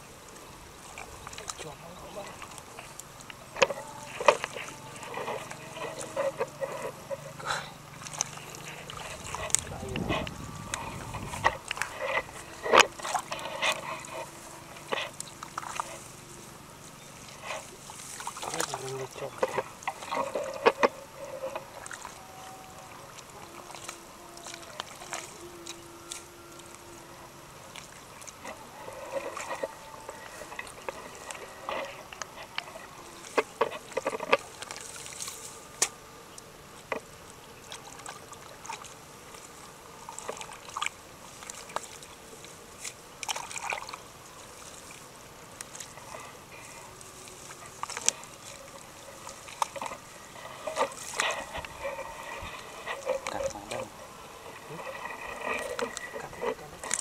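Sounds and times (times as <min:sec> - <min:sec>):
shallow water splashing: 0:00.0 - 0:57.0.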